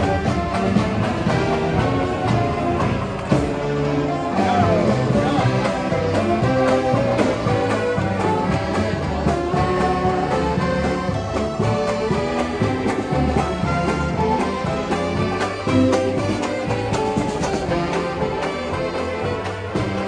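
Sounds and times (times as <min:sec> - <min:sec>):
string band playing a lively tune: 0:00.0 - 0:20.0.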